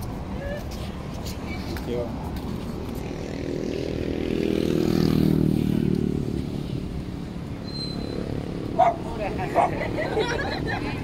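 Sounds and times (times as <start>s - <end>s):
steady traffic hum: 0.0s - 11.0s
vehicle passing: 1.5s - 11.0s.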